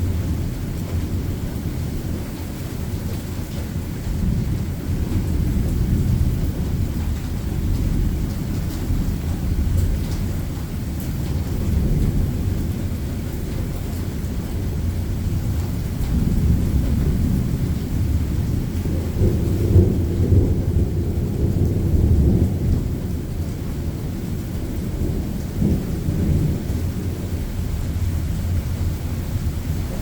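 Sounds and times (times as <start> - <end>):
rain hissing: 0.0 - 30.0
rolling thunder rumbling: 0.0 - 30.0.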